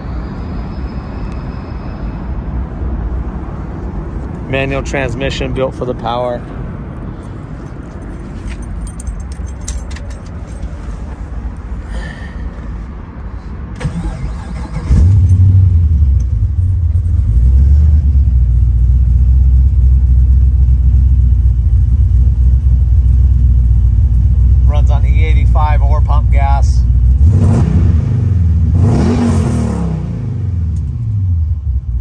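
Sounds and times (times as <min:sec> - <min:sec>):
car engine starting and idling: 0:04.2 - 0:32.0.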